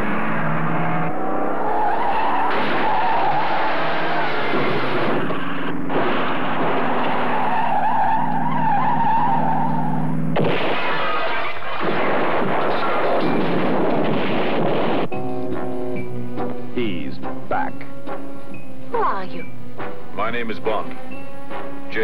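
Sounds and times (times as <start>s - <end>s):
car engines running: 0.0s - 22.0s.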